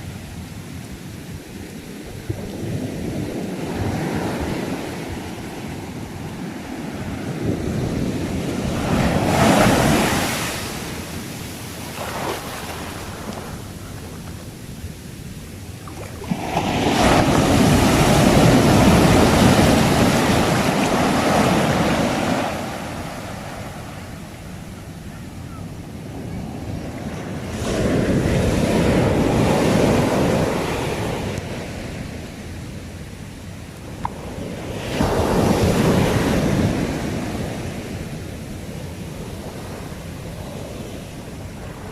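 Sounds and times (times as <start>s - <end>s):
sea waves washing on shore: 0.0s - 41.9s.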